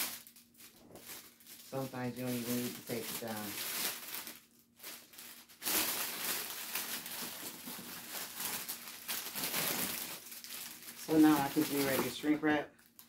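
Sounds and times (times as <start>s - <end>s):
plastic bag crinkling and rustling: 0.0s - 13.0s.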